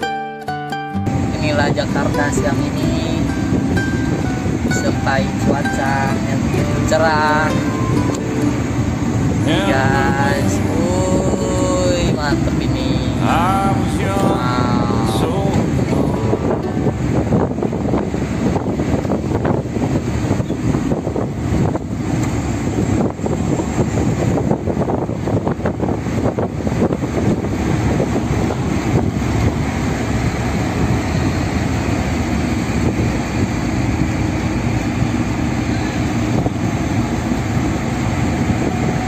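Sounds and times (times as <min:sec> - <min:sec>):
road and wind noise: 0:00.0 - 0:39.0
wind buffeting: 0:01.1 - 0:39.0.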